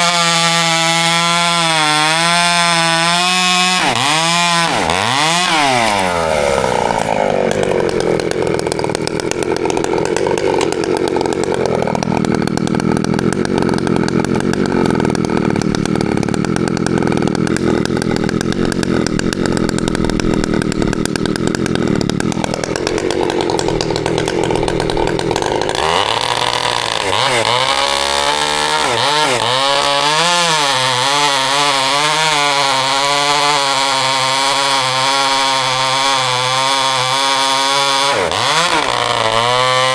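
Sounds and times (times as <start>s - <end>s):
chainsaw running under load: 0.0s - 39.9s.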